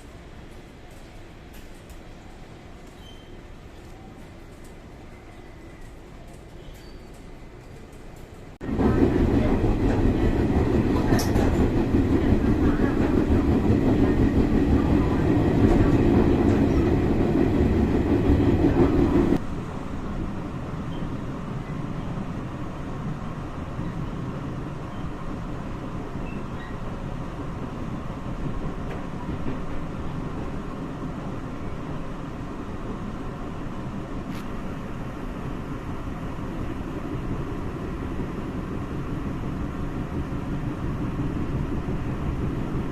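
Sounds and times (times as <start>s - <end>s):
train rumbling past: 0.0s - 42.9s.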